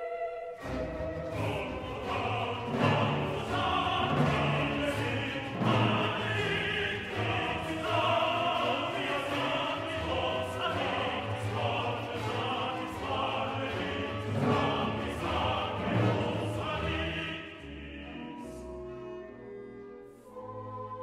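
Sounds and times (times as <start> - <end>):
choir singing long notes: 0.0 - 19.4, 20.1 - 21.0
orchestral accompaniment: 0.0 - 21.0.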